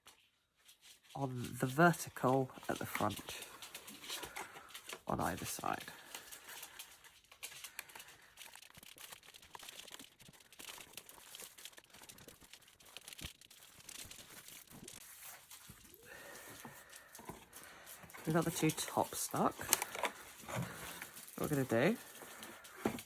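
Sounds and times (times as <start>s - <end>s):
cardstock rustling: 0.7s - 23.0s.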